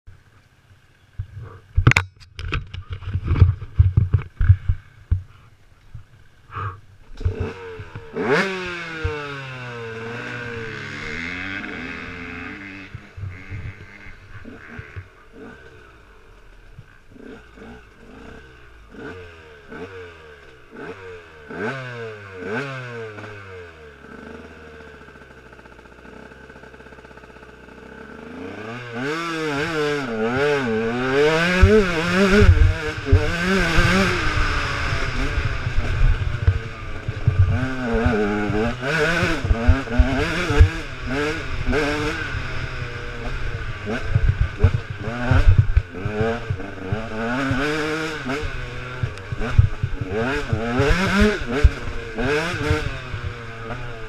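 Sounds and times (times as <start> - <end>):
motorcycle engine revving: 0.8 - 54.0.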